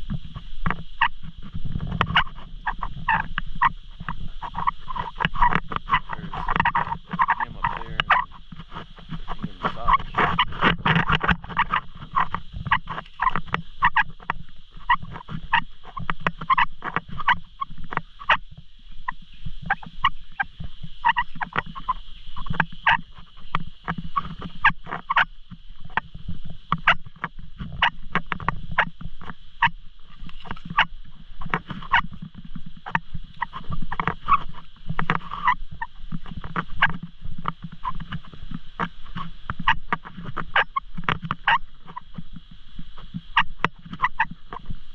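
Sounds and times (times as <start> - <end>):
high-pitched insect drone: 0.0 - 44.9.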